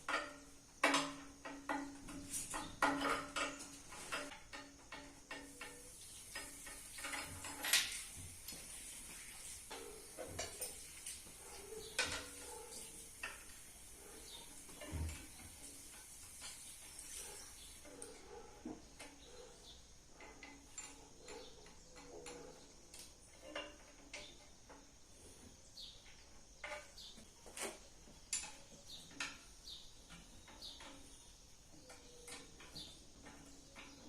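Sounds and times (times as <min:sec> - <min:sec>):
metal parts and tools clinking: 0:00.0 - 0:34.0.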